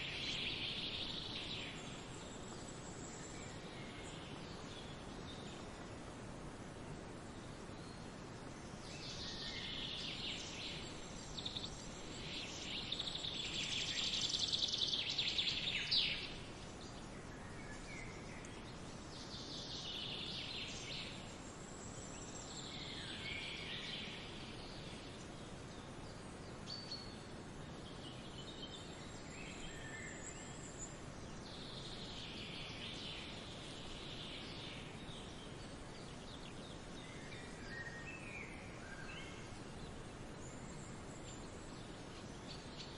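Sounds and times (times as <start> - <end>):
songbirds singing: 0.0 - 42.9
steady background hiss: 0.0 - 42.9.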